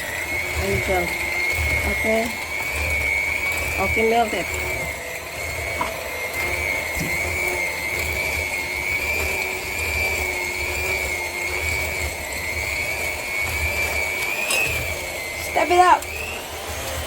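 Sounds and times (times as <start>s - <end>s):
electric mixer whining: 0.0s - 17.0s.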